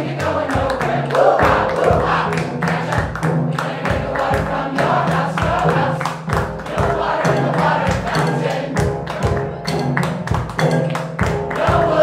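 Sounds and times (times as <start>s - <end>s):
choir singing: 0.0s - 9.8s, 11.5s - 12.0s
drum kit and percussion beat: 0.0s - 12.0s.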